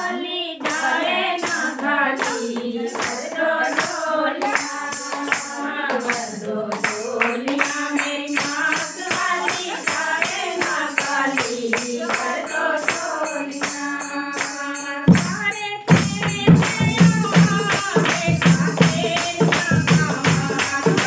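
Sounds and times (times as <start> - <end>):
group singing devotional song: 0.0 - 21.0
hand claps: 0.6 - 21.0
drum beats: 0.7 - 13.8, 14.4 - 21.0.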